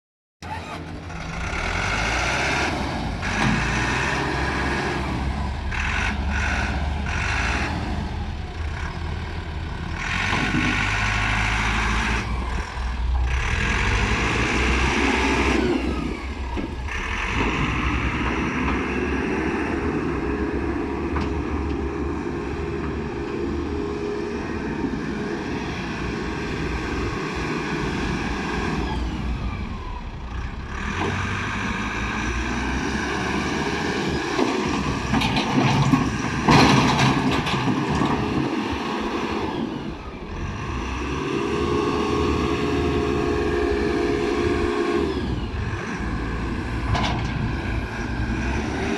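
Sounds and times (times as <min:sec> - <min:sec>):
diesel engine running: 0:00.4 - 0:48.9.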